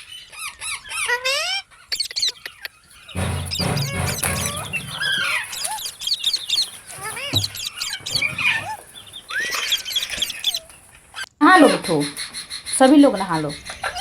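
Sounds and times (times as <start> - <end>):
parrots chirping and squawking: 0.0 - 14.0.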